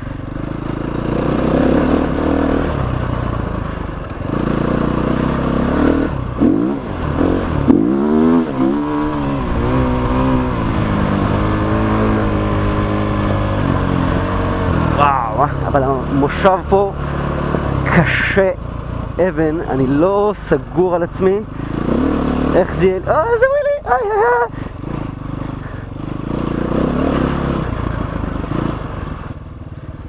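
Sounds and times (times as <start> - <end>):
dirt bike engine revving: 0.0 - 29.4.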